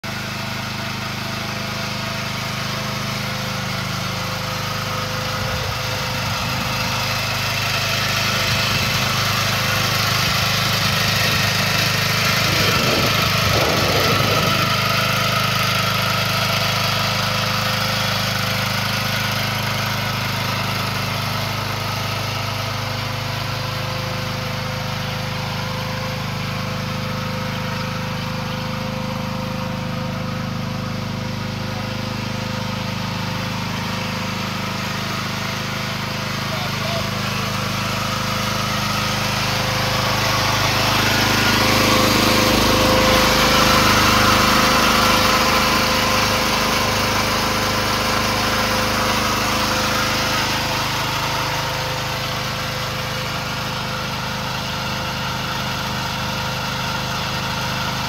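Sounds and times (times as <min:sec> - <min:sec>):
small excavator engine idling: 0:00.0 - 0:58.0.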